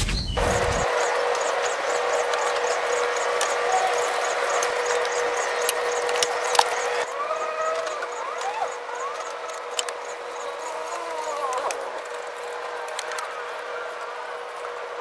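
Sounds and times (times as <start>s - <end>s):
whistled calls: 0.0s - 15.0s
steady hum: 0.4s - 15.0s.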